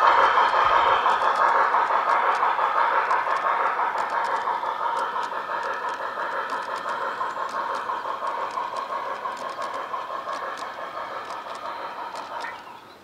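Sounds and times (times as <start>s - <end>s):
model train motor whine: 0.0s - 12.6s
light clicks over rail joints: 0.0s - 13.0s.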